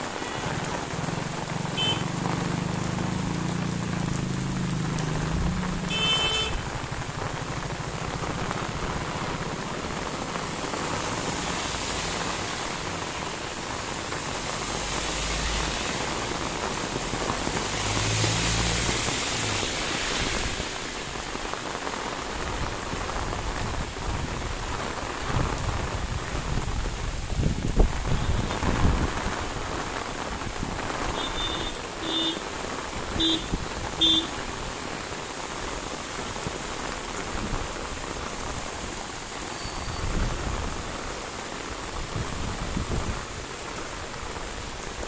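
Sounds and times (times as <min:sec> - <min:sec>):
heavy rain: 0:00.0 - 0:45.0.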